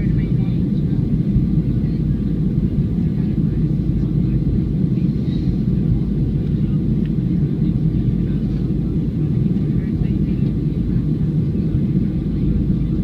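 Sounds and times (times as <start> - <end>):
airflow over airframe: 0.0 - 13.0
jet engine rumble in cabin: 0.0 - 13.0.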